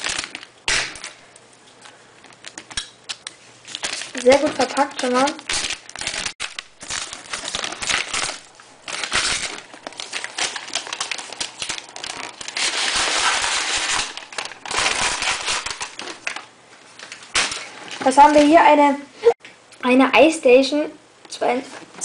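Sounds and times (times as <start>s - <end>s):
packing paper crinkling: 0.0s - 1.2s, 2.2s - 18.7s.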